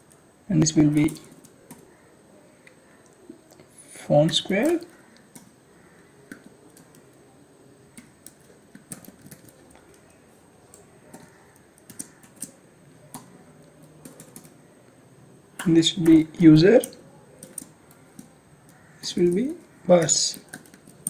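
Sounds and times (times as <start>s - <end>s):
keyboard typing: 0.0s - 2.0s, 2.6s - 21.0s.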